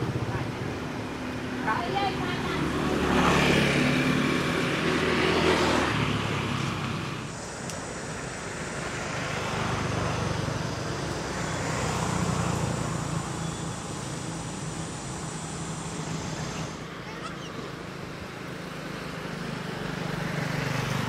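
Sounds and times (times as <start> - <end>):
vehicle engines passing by: 0.0 - 21.0.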